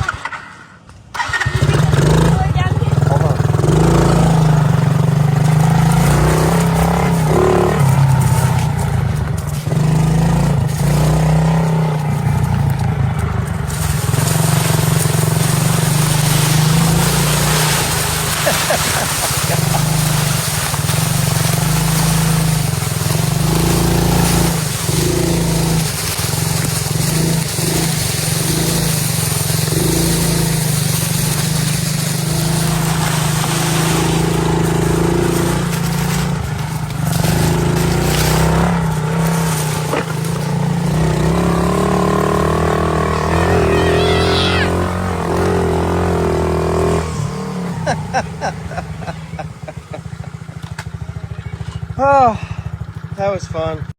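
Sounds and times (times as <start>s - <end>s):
dirt bike engine running: 0.0s - 53.9s.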